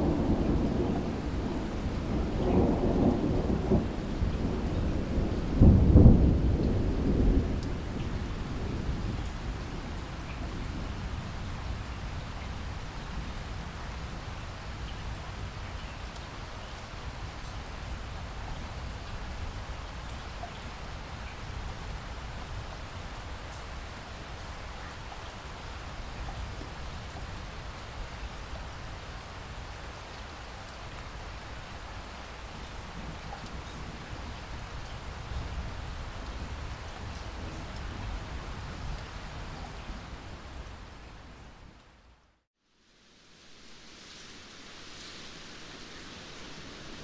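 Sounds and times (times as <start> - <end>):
steady rainfall: 0.0 - 47.0.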